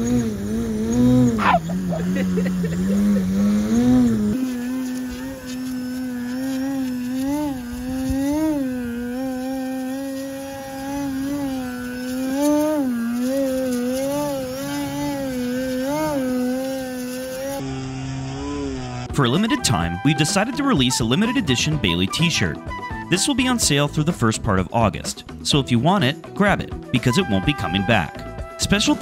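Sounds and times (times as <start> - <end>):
electric model plane motor droning: 0.0 - 23.4, 27.0 - 29.0.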